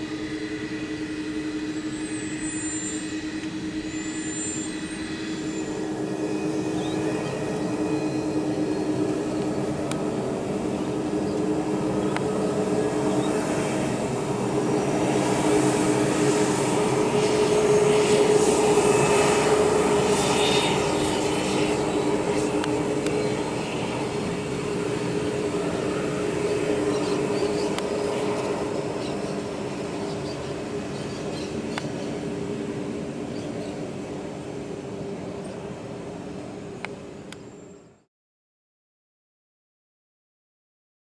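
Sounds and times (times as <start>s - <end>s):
jet engines whining and roaring: 0.0s - 38.1s.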